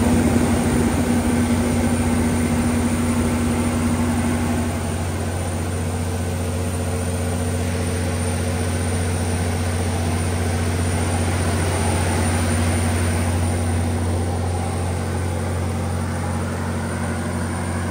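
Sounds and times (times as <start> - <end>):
diesel generator engine droning: 0.0 - 17.9.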